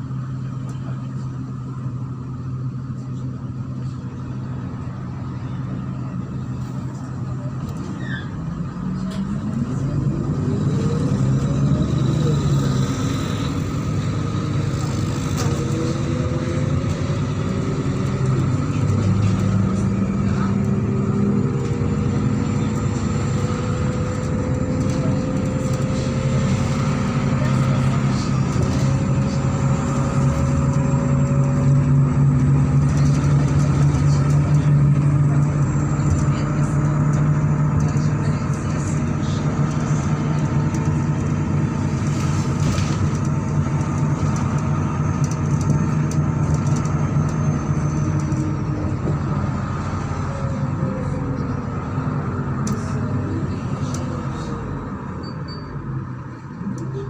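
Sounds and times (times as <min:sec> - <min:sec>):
bus engine drone: 0:00.0 - 0:57.0
tyre and road noise: 0:00.0 - 0:57.0.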